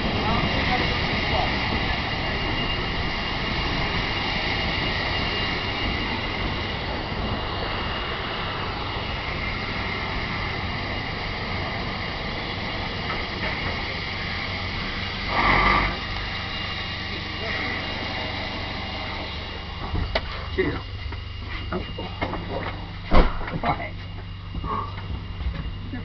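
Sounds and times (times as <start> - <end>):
steam train rumbling: 0.0 - 26.0.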